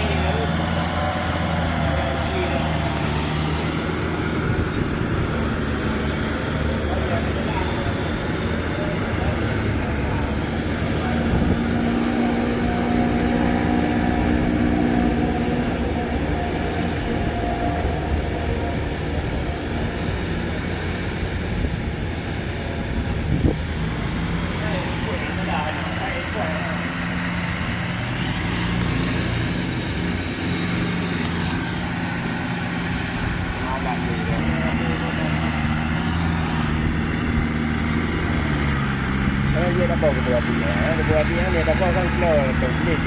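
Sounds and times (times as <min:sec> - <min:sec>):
tractor diesel engine rumbling: 0:00.0 - 0:43.0.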